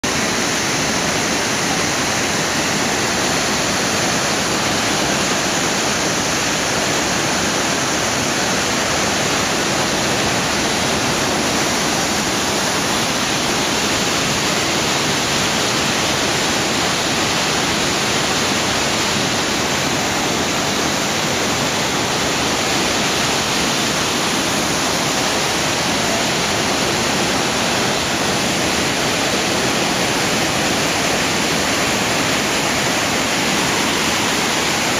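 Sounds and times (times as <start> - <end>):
water rushing over weir: 0.0 - 34.9.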